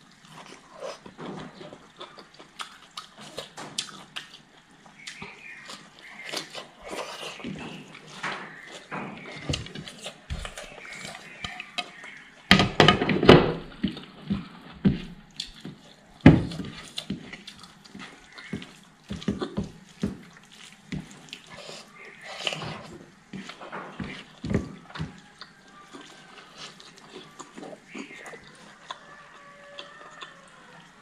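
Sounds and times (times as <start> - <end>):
wet chewing and slurping: 0.0 - 12.4, 13.8 - 31.0.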